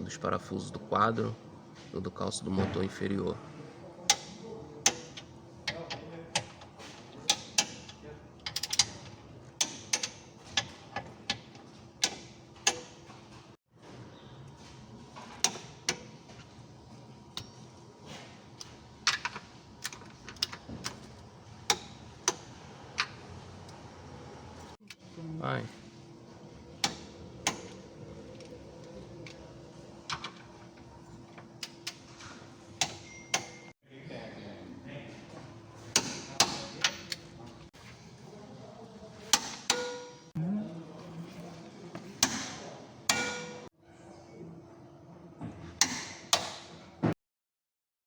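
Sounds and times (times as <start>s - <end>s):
steady low hum: 0.0s - 39.7s.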